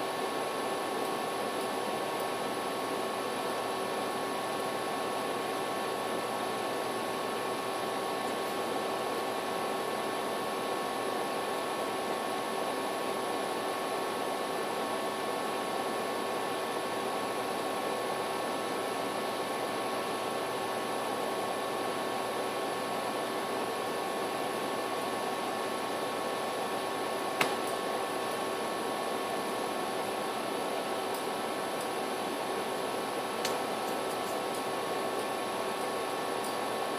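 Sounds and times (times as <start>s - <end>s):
faint electrical hum: 0.0s - 36.9s.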